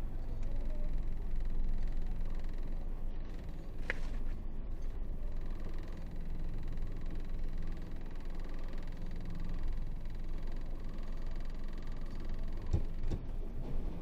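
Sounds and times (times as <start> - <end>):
diesel truck engine humming: 0.0 - 14.0.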